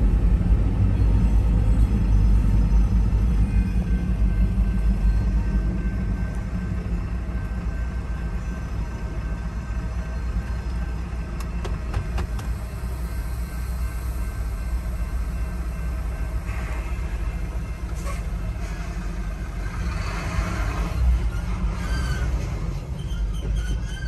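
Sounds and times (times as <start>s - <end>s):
freight train rumble: 0.0s - 24.0s.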